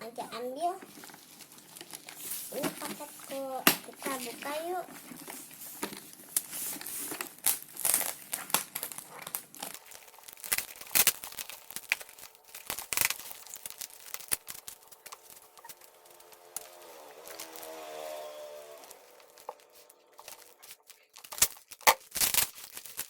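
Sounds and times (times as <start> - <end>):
packaging crinkling and tearing: 0.8 - 23.0.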